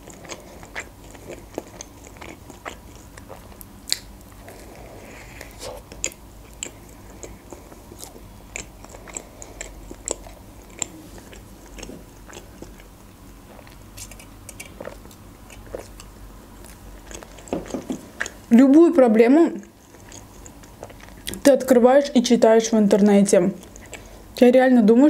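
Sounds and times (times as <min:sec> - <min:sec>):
wet chewing mouth sounds: 0:00.0 - 0:18.5, 0:19.6 - 0:21.5, 0:23.6 - 0:24.4.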